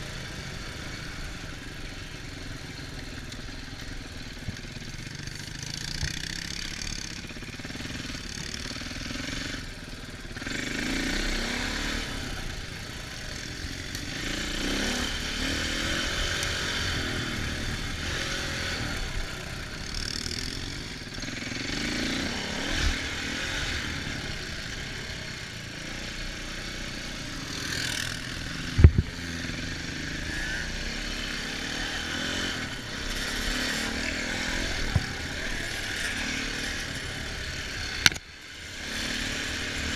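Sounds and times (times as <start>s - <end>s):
dirt bike engine revving: 3.9s - 39.9s.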